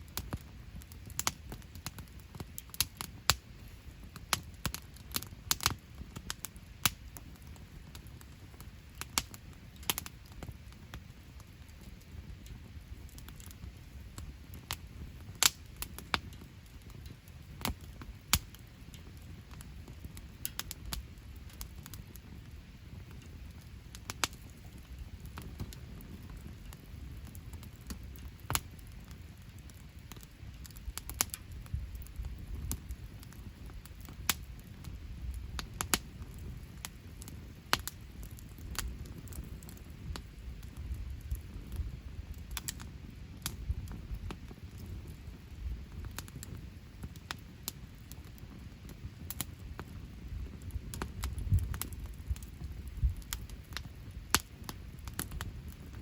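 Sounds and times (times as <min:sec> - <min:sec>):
low steady rumble: 0:00.0 - 0:56.0
wood fire crackling: 0:00.0 - 0:56.0.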